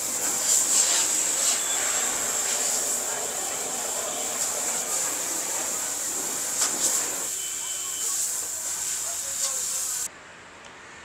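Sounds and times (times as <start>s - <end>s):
gas torch hissing: 0.0s - 10.1s.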